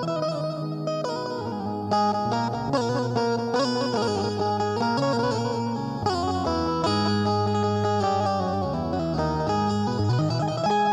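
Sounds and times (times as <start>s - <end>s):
keyed banjo melody: 0.0s - 10.9s.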